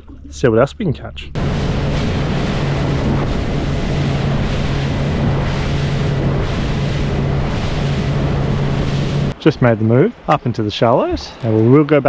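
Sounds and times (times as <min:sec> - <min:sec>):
boat motor humming: 0:00.0 - 0:11.2
rush of wind and water: 0:00.0 - 0:12.0.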